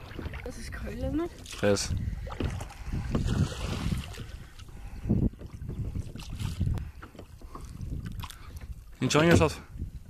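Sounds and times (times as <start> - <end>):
oar strokes: 0.0 - 9.7
water noise: 0.0 - 10.0
wind rumbling on microphone: 0.0 - 10.0.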